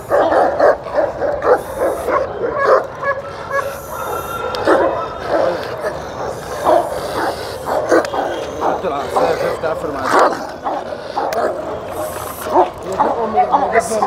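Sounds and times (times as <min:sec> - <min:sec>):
dog barking: 0:00.0 - 0:14.0.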